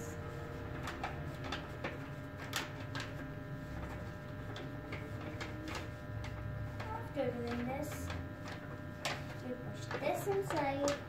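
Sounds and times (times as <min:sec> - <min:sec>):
paper being folded and crinkled: 0:00.0 - 0:11.0
steady low hum: 0:00.0 - 0:11.0.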